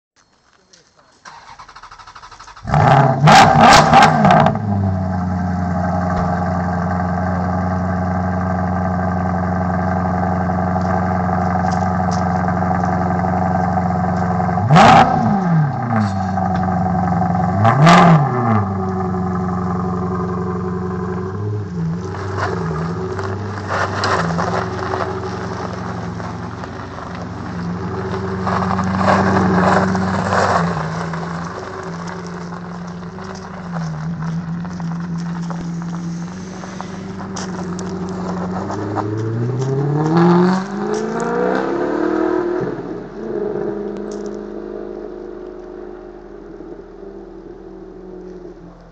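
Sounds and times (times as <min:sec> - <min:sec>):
car engine revving and idling: 0:01.3 - 0:48.9.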